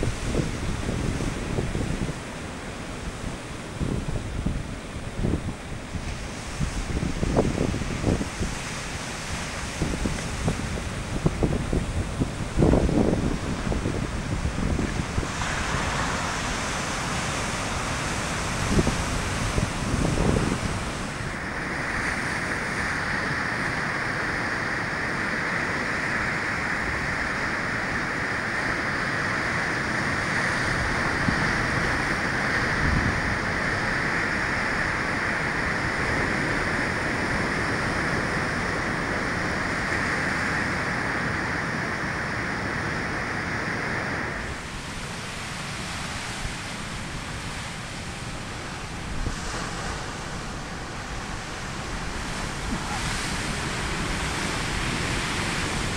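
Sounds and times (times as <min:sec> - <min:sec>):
sea surf breaking over rocks: 0:00.0 - 0:55.9
wind on microphone: 0:00.0 - 0:55.9.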